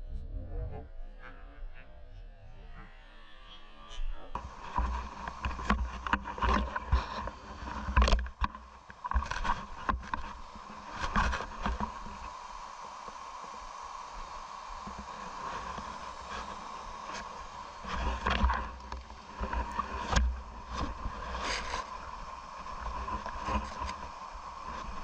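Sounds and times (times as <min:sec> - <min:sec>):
stream water rushing: 0:04.4 - 0:25.0.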